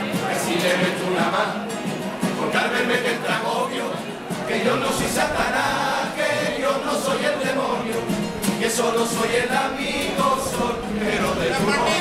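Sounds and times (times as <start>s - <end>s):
acoustic guitar accompaniment: 0.0s - 12.0s
male voices singing together: 0.0s - 12.0s.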